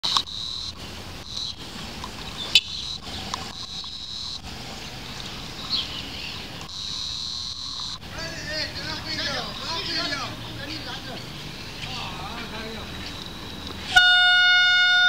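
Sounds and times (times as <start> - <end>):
high buzzing: 0.0 - 5.6, 6.4 - 15.0
distant diesel railcar rumble: 0.0 - 15.0.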